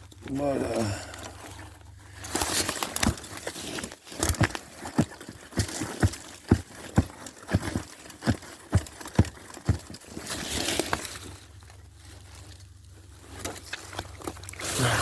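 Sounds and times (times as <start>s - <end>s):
soft rustle: 0.0s - 15.0s.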